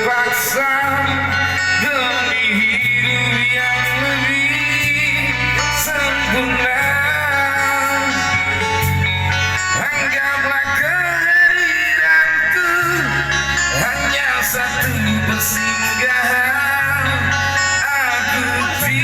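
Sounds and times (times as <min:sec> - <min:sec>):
person singing long notes: 0:00.0 - 0:19.0
pop ballad band music: 0:00.0 - 0:19.0
steady bass line: 0:00.0 - 0:19.0.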